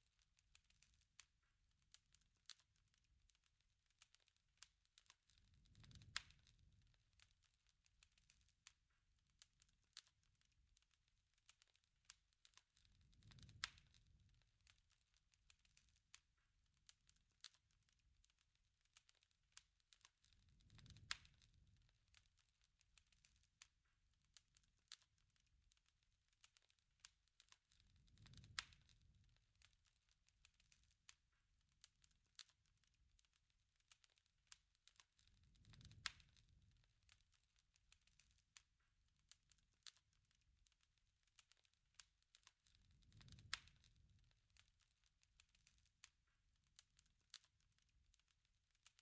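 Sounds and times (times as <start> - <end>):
wood fire crackling: 0.0 - 49.0
rumbling flames: 0.4 - 49.0.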